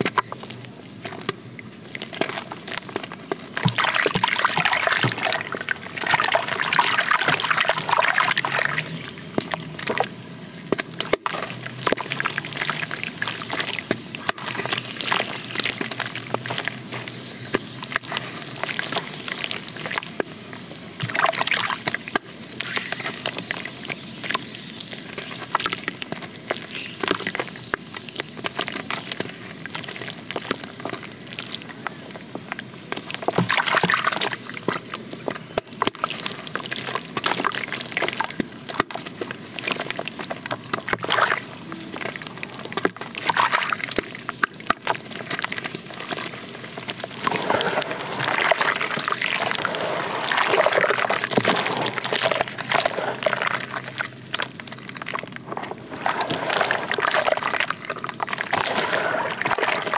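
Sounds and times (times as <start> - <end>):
crumbling blocks crackling: 0.0 - 59.9
water sloshing and splashing: 0.0 - 59.9.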